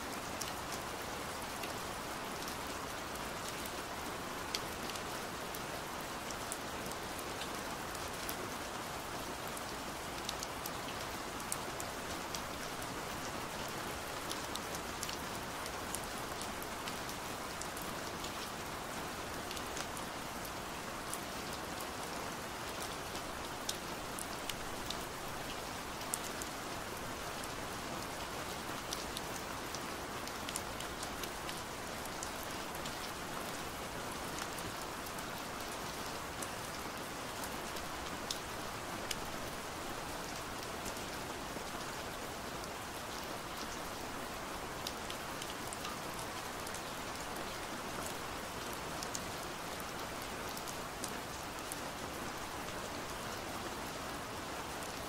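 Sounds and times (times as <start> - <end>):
rain on a window: 0.0 - 55.0.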